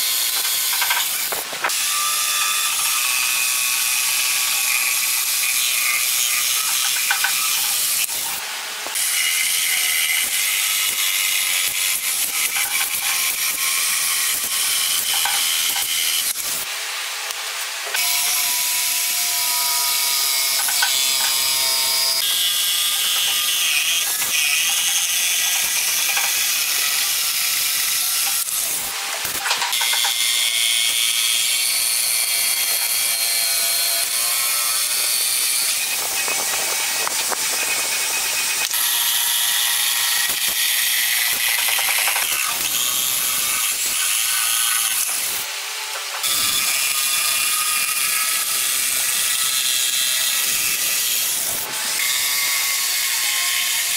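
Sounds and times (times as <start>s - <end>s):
jigsaw cutting wood: 0.0s - 53.9s.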